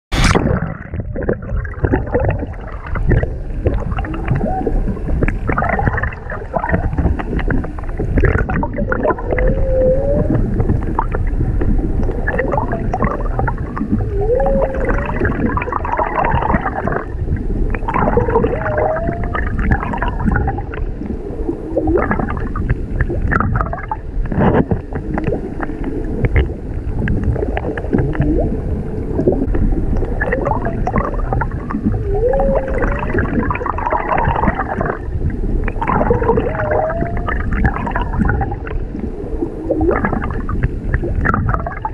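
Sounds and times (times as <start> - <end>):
water washing and gurgling: 0.1 - 41.9
whale song: 0.1 - 41.9.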